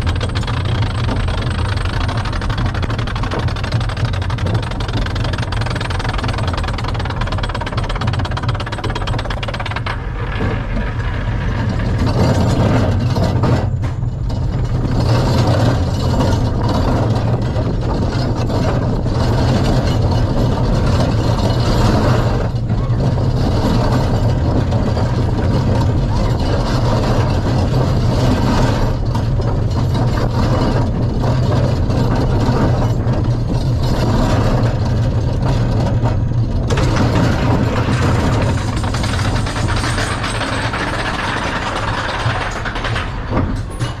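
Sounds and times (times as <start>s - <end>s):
roller coaster rumble and clatter: 0.0s - 44.0s.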